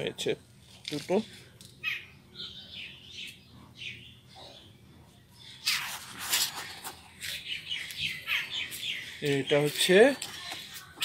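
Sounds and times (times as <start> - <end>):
small birds chirping: 1.1 - 11.0.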